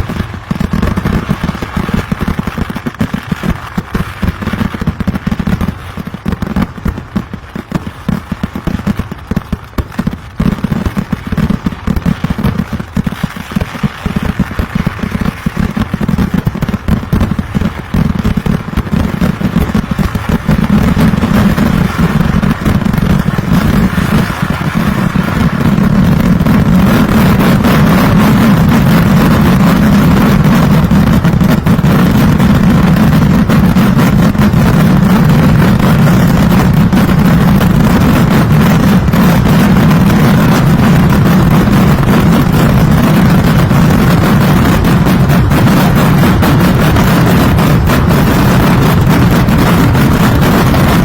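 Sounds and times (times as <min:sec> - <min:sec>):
firecracker bangs: 0:00.0 - 0:51.0.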